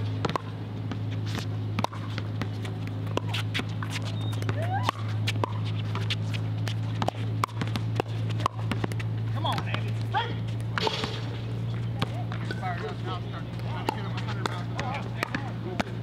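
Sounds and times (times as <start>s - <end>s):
ball bouncing on hard court: 0.0s - 16.0s
low steady hum: 0.0s - 16.0s
shoes moving on court: 0.0s - 16.0s.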